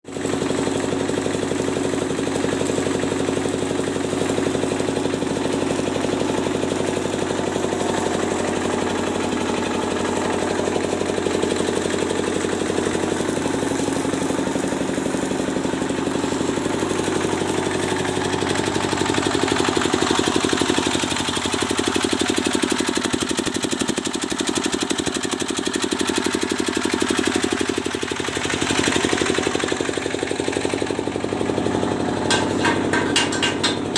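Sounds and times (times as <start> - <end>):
machine with rapid pulsing knock: 0.2 - 33.9.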